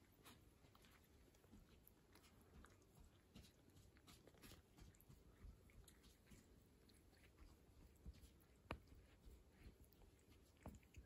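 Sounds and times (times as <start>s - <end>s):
cat licking itself: 0.0s - 11.0s.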